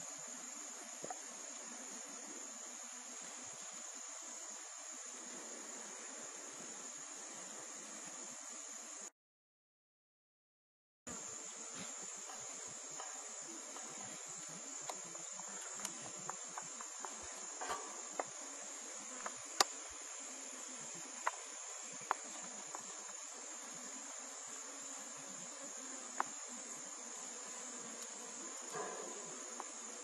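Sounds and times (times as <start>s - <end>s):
insects droning: 0.0s - 9.1s, 11.1s - 30.0s.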